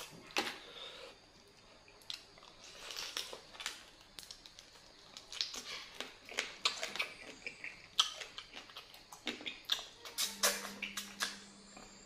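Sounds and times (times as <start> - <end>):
chewing and sucking: 0.0 - 11.4.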